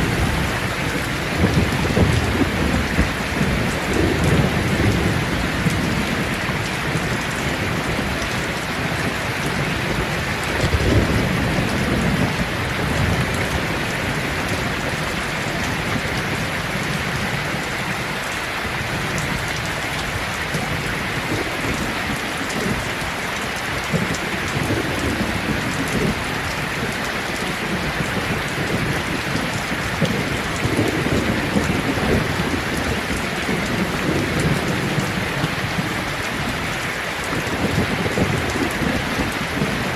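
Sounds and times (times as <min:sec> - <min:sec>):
low rumbles of thunder: 0:00.0 - 0:18.0, 0:18.7 - 0:36.5, 0:37.3 - 0:39.9
dense rain falling on leaves: 0:00.0 - 0:39.9.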